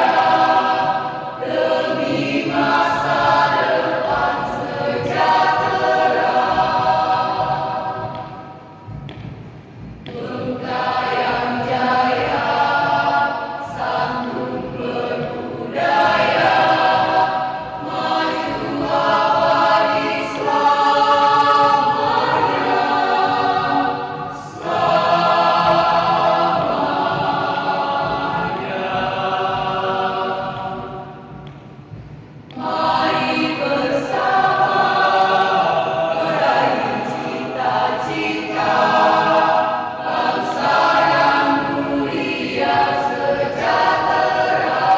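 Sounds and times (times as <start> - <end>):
choir singing sustained phrases: 0.0 - 44.9.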